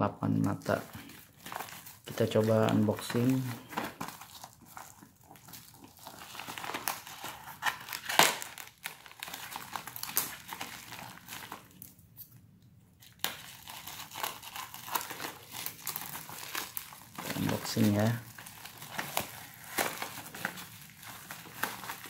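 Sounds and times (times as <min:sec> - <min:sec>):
plastic bag crinkling and tearing: 0:00.3 - 0:12.3, 0:13.0 - 0:22.0.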